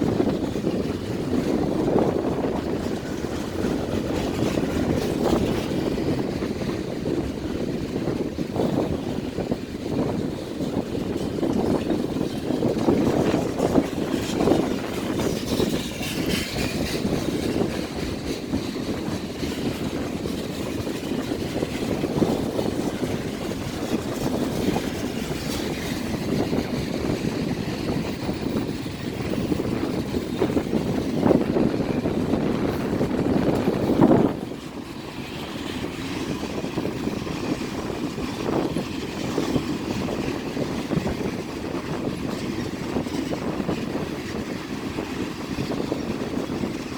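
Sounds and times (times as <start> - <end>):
train rumbling and clattering: 0.0 - 46.9.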